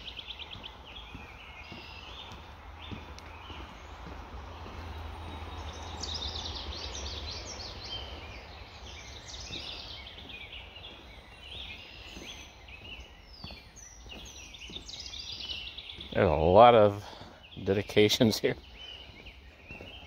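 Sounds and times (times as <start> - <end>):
wild birds chirping and trilling: 0.0 - 20.0.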